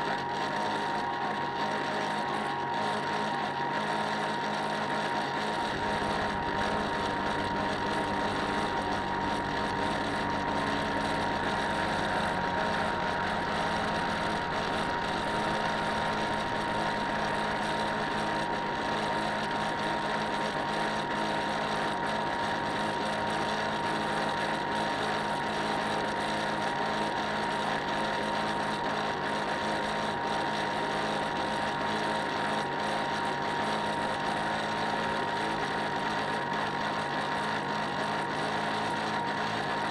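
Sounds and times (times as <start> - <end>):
model boat motor whining: 0.0 - 39.9.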